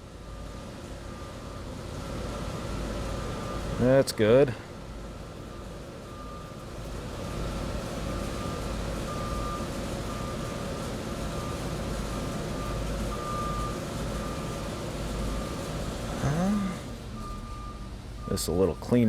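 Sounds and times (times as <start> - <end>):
low engine rumble: 0.0 - 19.0
reversing alarm beeping: 0.1 - 19.0.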